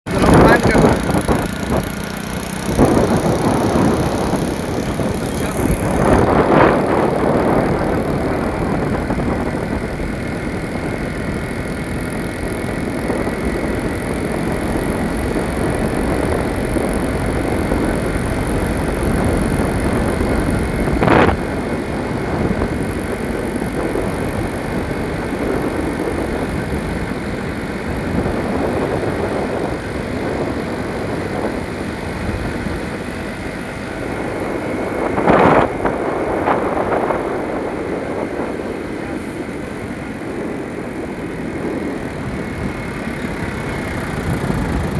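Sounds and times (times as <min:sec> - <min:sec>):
vehicle road and wind noise: 0:00.0 - 0:44.9.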